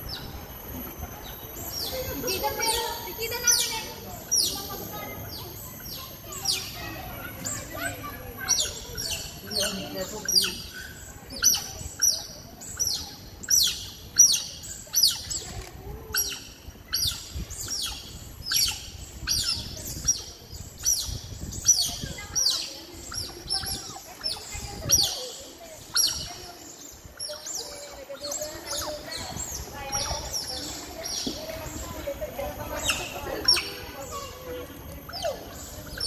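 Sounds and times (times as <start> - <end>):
otters chirping: 0.0 - 36.0.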